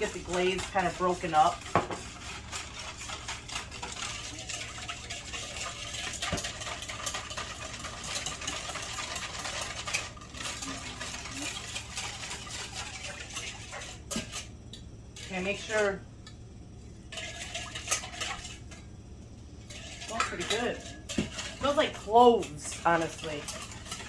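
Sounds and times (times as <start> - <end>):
whisk scraping against bowl: 0.0 - 14.6, 17.1 - 18.9, 19.6 - 24.0.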